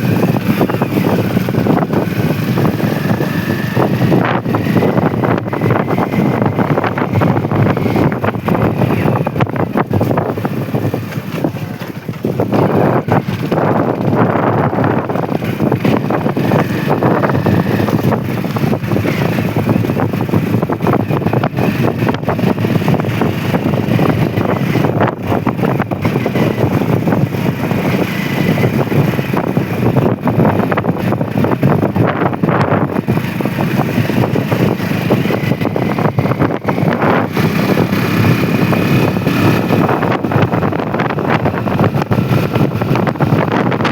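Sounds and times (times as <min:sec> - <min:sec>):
motorcycle engine: 0:00.0 - 0:43.9
road noise: 0:00.0 - 0:43.9
wind rushing over microphone: 0:00.0 - 0:43.9.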